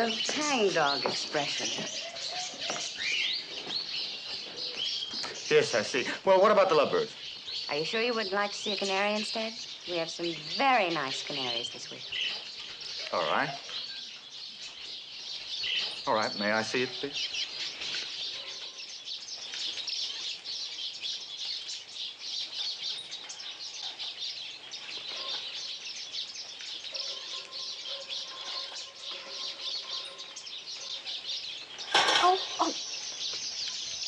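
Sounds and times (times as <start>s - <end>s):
caged birds chirping: 0.0s - 34.0s.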